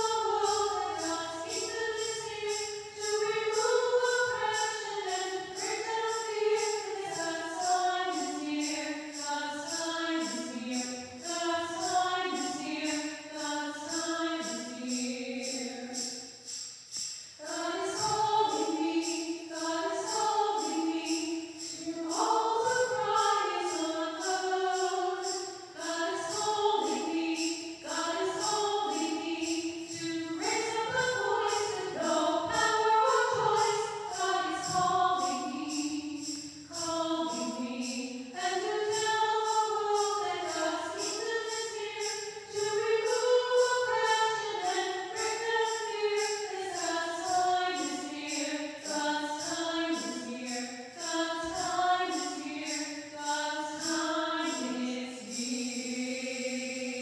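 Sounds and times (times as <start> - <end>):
choir singing a hymn: 0.0 - 16.3, 17.4 - 57.0
jingling beat: 0.0 - 57.0.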